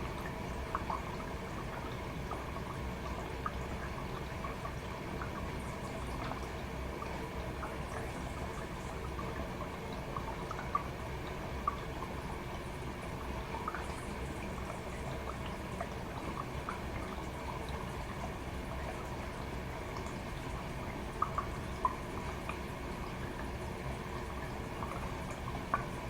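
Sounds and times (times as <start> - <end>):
small drips: 0.0 - 26.0.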